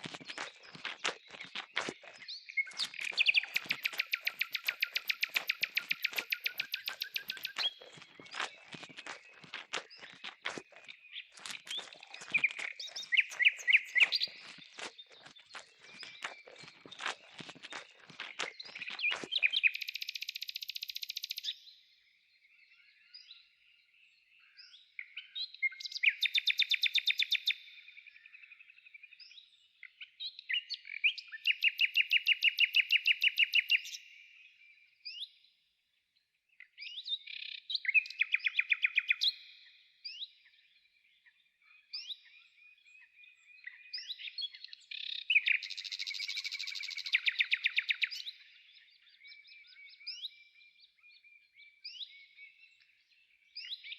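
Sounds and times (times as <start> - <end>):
bird chirps: 0.0 - 21.8, 22.5 - 35.4, 36.6 - 53.9
songbird trills: 0.0 - 21.8, 22.5 - 35.4, 36.6 - 53.9.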